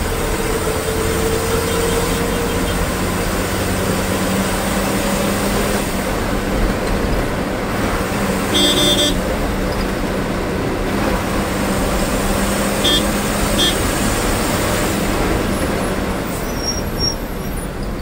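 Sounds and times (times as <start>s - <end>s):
bus diesel engine drone: 0.0s - 18.0s
road noise: 0.0s - 18.0s.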